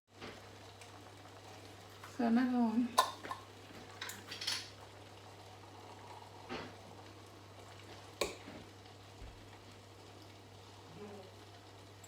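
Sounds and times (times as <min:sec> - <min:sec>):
sauce cooking in pot: 0:00.1 - 0:12.0.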